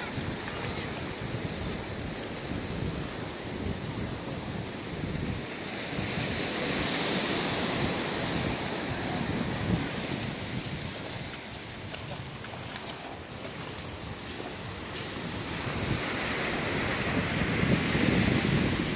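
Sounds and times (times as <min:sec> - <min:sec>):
surf washing on beach: 0:00.0 - 0:18.9
wind buffeting microphone: 0:00.0 - 0:18.9.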